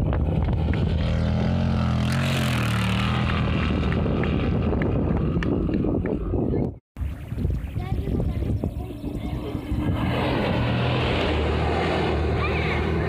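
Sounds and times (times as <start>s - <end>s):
engine running at high revs: 0.0s - 6.5s, 8.7s - 13.0s.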